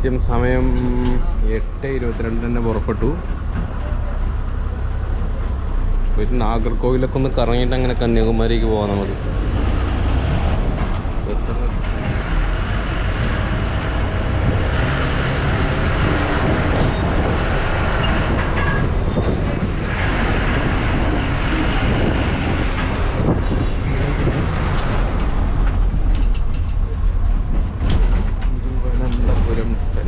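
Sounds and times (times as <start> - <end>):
bus engine and cabin hum: 0.0 - 30.0.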